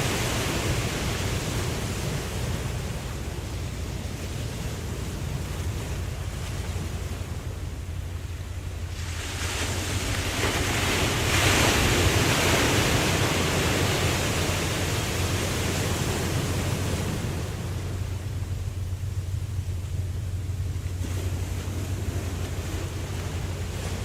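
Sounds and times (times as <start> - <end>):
low rumble: 0.0 - 24.0
ocean wave breaking: 0.0 - 24.0.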